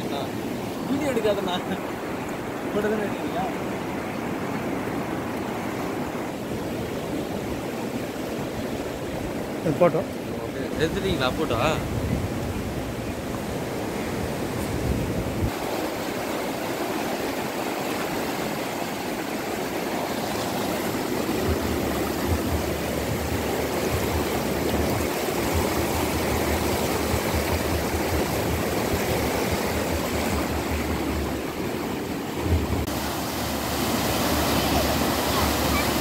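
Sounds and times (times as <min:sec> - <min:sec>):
floodwater rushing under bridge: 0:00.0 - 0:36.0.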